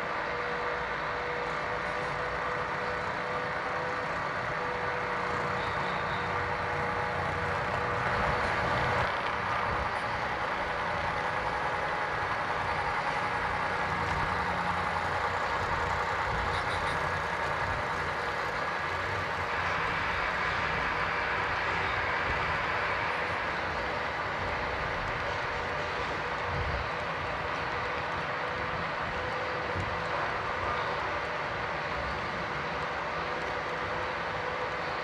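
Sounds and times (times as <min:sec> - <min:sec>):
model train running rumble: 0:00.0 - 0:35.0.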